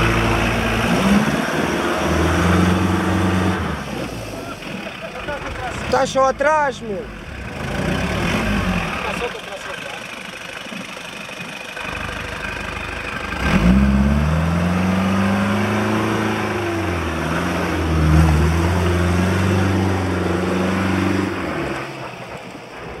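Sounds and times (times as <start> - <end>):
diesel engine revving hard: 0.0 - 10.1, 11.8 - 23.0.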